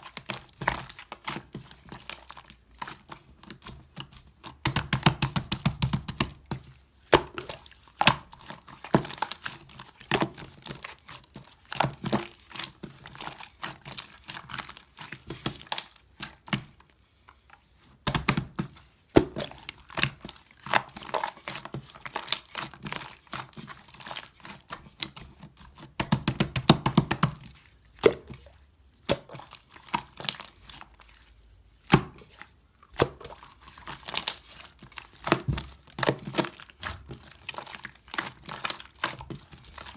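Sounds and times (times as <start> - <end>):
slime squished by hand: 0.0 - 16.7, 18.0 - 39.9.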